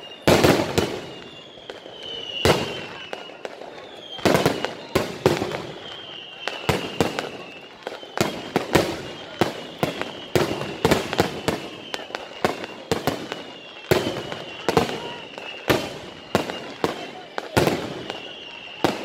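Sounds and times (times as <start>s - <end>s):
falling firework whistle: 0.0s - 19.0s.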